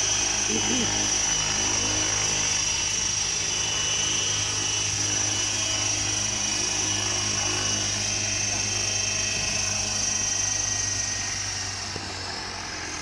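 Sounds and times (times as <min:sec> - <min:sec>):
high-pitched motor whine: 0:00.0 - 0:13.0
low rotor hum: 0:00.0 - 0:13.0.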